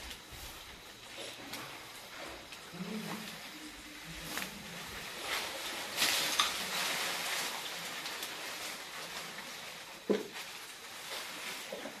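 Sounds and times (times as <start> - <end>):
leaves and branches rustling: 0.0 - 12.0.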